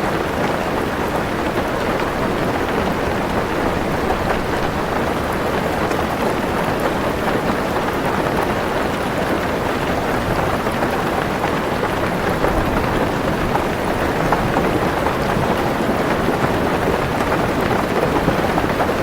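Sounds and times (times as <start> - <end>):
heavy rain on a car roof: 0.0 - 19.0.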